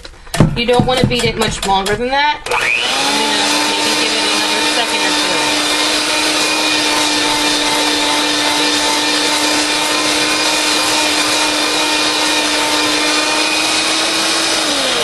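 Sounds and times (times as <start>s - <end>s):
electric mixer motor whine: 1.3s - 15.0s.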